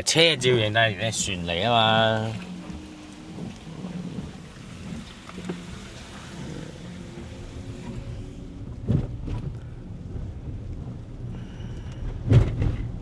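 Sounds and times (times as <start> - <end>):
gusting wind on microphone: 0.0 - 13.0.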